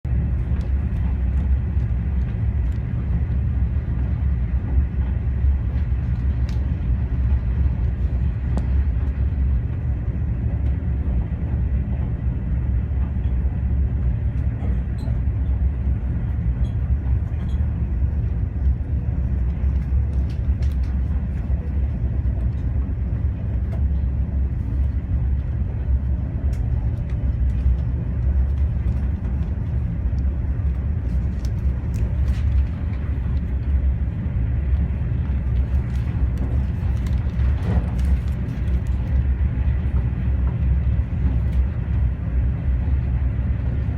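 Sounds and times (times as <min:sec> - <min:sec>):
train rumbling at speed: 0:00.0 - 0:43.9.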